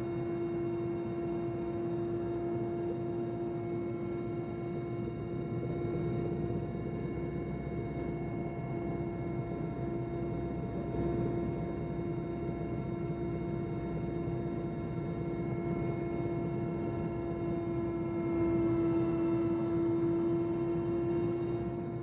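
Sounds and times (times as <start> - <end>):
helicopter drone: 0.0 - 22.0.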